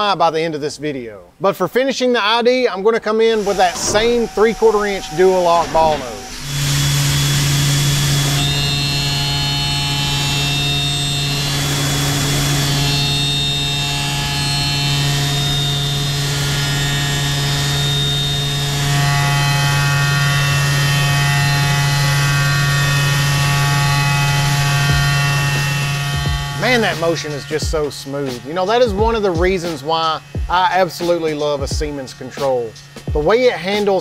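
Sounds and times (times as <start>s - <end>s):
milling machine hum and whine: 3.3s - 34.0s.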